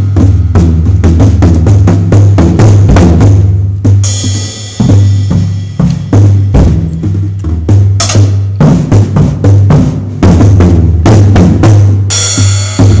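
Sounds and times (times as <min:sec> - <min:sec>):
bass drum and tom hits: 0:00.0 - 0:13.0.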